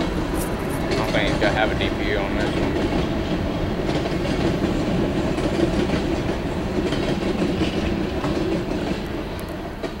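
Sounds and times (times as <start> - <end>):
freight train rumbling past: 0.0 - 10.0
steel wheels clacking over track: 0.0 - 10.0.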